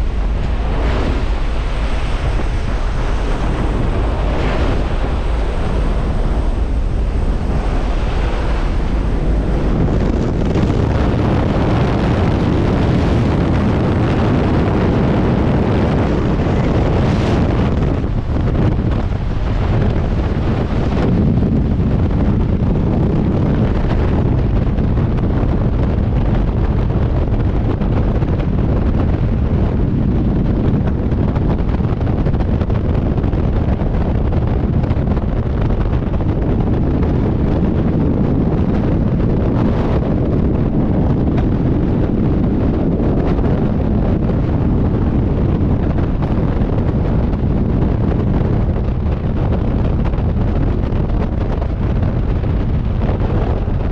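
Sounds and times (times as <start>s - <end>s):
freefall wind buffeting microphone: 0.0s - 53.9s.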